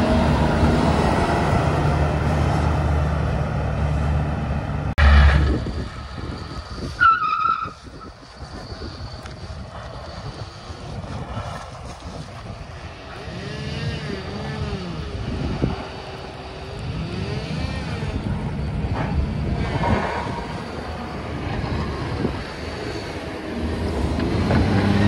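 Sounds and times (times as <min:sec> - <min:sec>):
vehicle engine revving: 0:00.0 - 0:07.0, 0:07.8 - 0:25.0.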